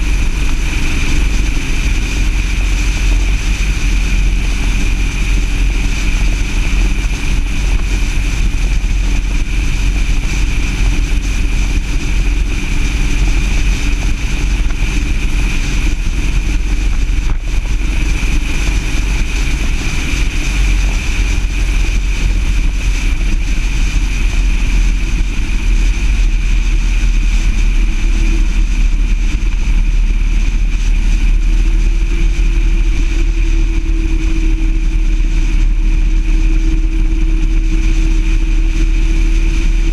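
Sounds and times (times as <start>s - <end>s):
heavy wind rumble: 0.0s - 39.9s
vehicle engine droning: 0.0s - 39.9s.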